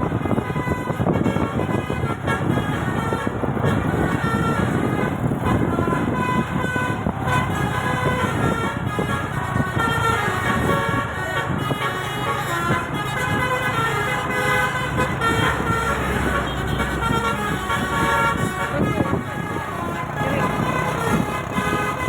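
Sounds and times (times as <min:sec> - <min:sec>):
bus engine rumble: 0:00.0 - 0:22.0
musical air horn melody: 0:00.0 - 0:22.0.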